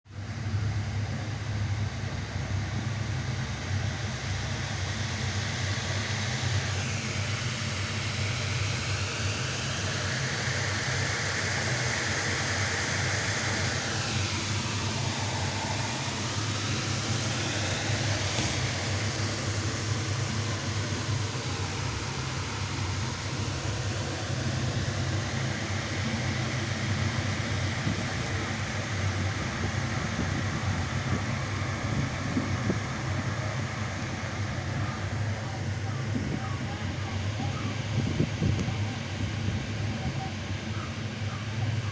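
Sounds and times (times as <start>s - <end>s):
train rumbling: 0.2s - 41.9s
faint sliding whine: 0.5s - 41.9s.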